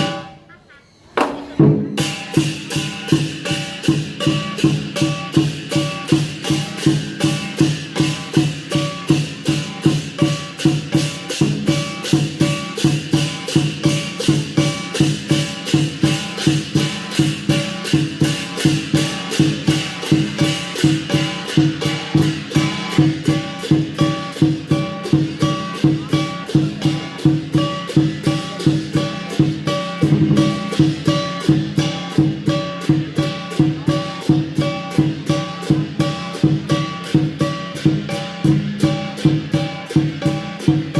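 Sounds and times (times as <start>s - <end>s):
cymbals crashing: 0.0s - 0.5s, 1.4s - 40.9s
drum beating fast rhythm: 0.0s - 0.6s, 1.2s - 40.9s.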